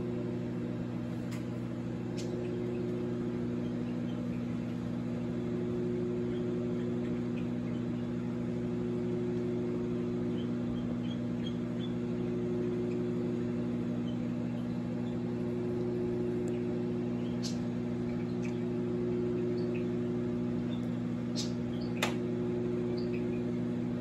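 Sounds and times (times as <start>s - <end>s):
microwave oven humming: 0.0s - 24.0s.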